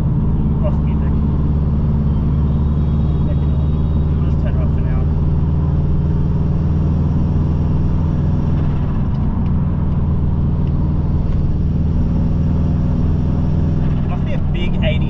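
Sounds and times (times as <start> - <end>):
car engine running steadily: 0.0 - 15.0.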